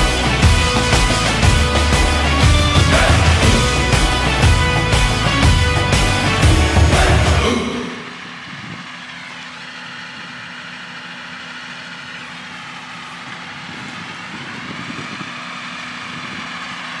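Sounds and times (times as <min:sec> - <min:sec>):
tractors running: 0:00.0 - 0:17.0.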